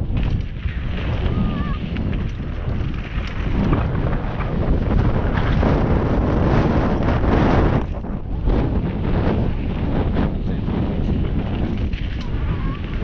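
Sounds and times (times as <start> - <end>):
bike rattles and knocks: 0.0 - 13.0
tyres rumbling on dirt trail: 0.0 - 13.0
wind buffeting microphone: 0.0 - 13.0.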